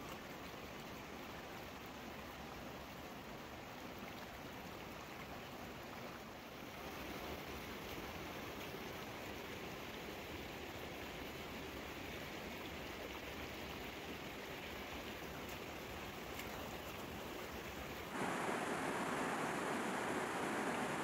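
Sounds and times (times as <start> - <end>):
stream running over stones: 0.0 - 21.0.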